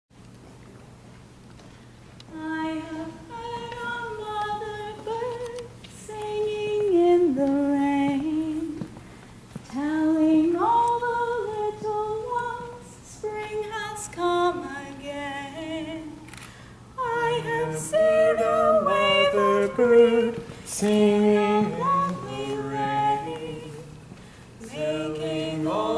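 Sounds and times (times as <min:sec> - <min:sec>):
woman singing unaccompanied: 0:02.3 - 0:08.9, 0:09.7 - 0:16.4, 0:17.0 - 0:25.9.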